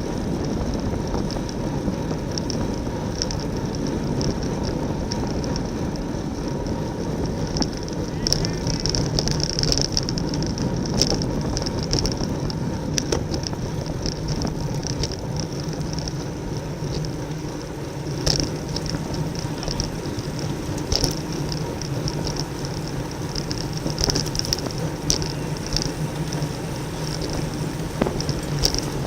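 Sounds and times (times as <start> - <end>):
bicycle tyre and drivetrain noise: 0.0 - 29.0
wind rushing over microphone: 0.0 - 29.0.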